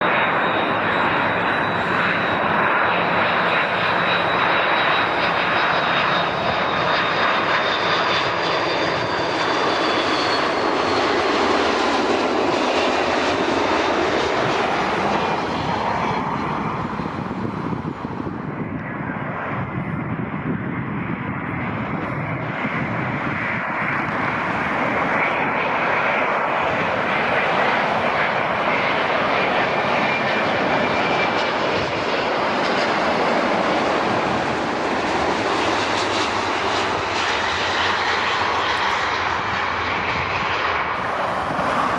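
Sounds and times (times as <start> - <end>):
jet airliner engines whining: 0.0 - 41.9.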